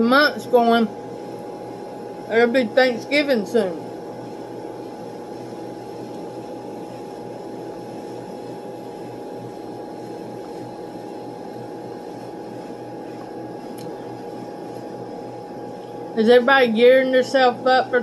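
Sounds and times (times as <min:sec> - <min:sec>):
room hum and hiss: 0:00.0 - 0:18.0.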